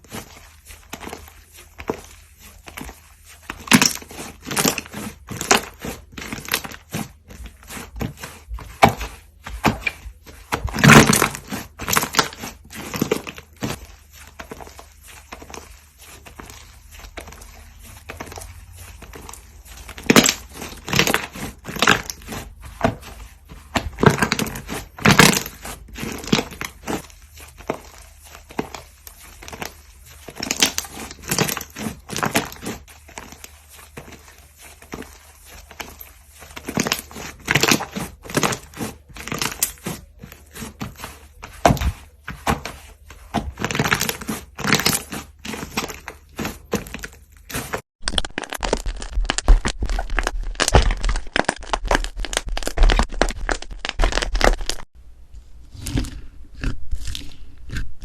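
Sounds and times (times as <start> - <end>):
slime squished by hand: 0.0 - 54.9.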